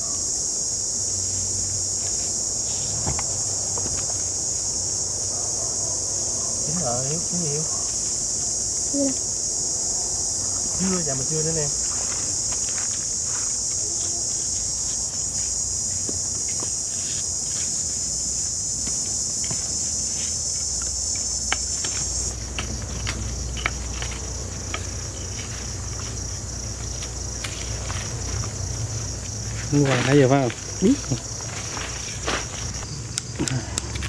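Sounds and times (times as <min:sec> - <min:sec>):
insects chirping: 0:00.0 - 0:34.0.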